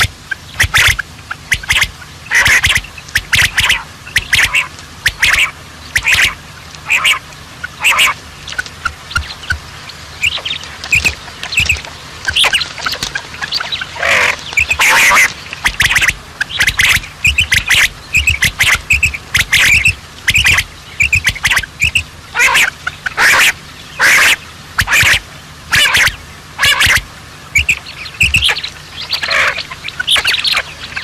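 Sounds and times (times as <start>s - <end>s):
birds chirping: 0.0s - 31.0s
birds squawking harshly: 0.0s - 31.0s.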